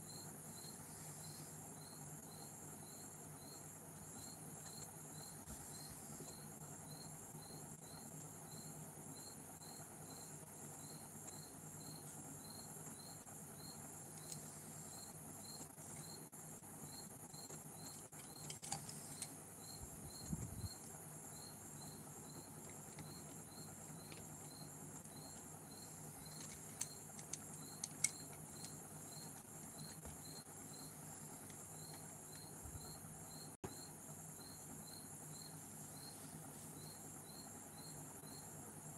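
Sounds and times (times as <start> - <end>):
cricket chirping: 0.0 - 38.9
faint steady hiss: 0.0 - 38.9.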